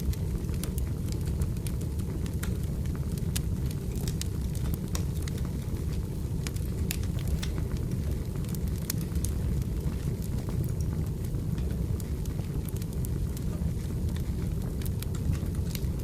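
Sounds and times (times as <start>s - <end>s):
fire rushing: 0.0s - 16.0s
wood crackling and popping: 0.0s - 16.0s.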